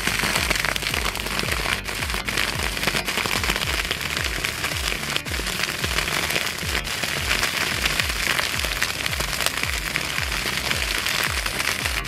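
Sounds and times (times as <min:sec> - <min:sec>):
fire crackling: 0:00.0 - 0:12.0
music with low bass beat: 0:00.0 - 0:12.0.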